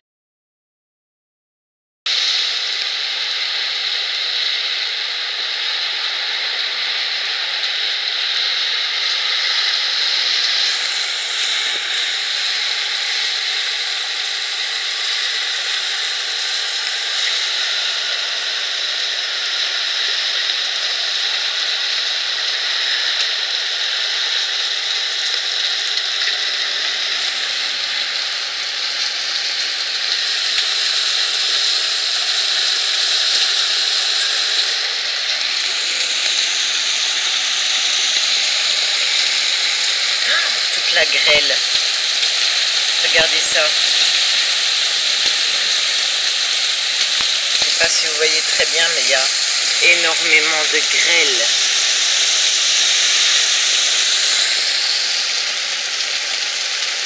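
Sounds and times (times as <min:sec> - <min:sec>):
heavy rain and hail pelting pavement: 0:09.0 - 0:57.0.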